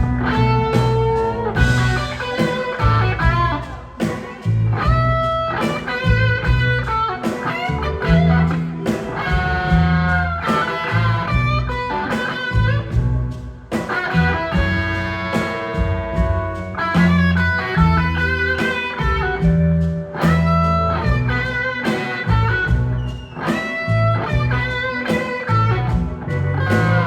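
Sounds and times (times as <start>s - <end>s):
blues-rock band playing: 0.0s - 27.0s
electric guitar bending notes: 0.0s - 27.0s.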